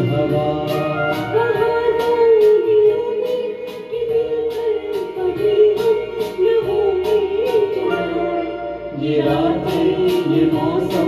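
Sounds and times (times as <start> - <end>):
karaoke backing track: 0.0 - 11.0.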